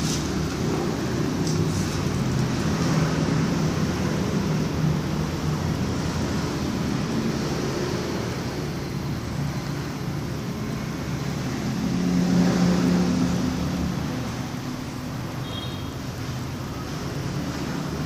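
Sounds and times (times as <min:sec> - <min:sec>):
louder engine hum: 0:00.0 - 0:18.0
steady engine noise: 0:00.0 - 0:18.0.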